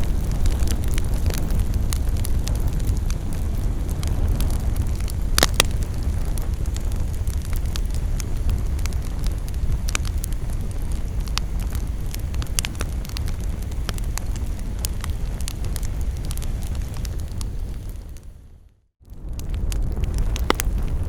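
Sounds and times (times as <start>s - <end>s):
campfire crackling and popping: 0.0s - 18.4s, 19.1s - 21.0s.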